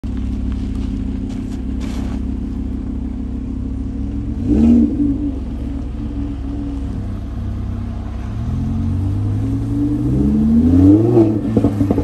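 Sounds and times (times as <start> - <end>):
engine rev: 0.0 - 12.0
sports car engine running: 0.0 - 12.0.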